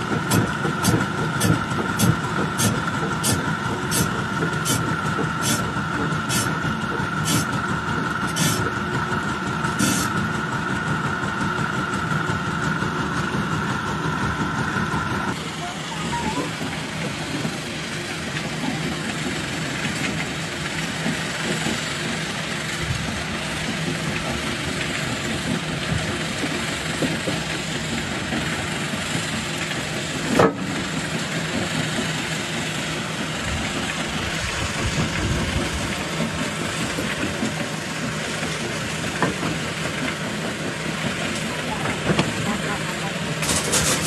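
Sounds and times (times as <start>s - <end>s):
rock crusher running: 0.0s - 44.0s.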